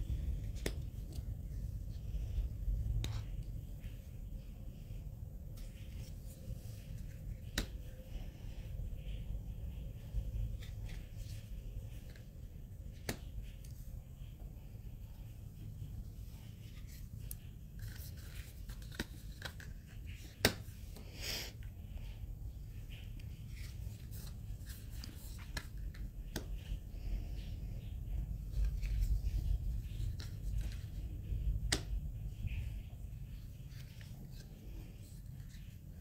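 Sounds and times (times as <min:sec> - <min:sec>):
cards laid on cloth: 0:00.0 - 0:36.0.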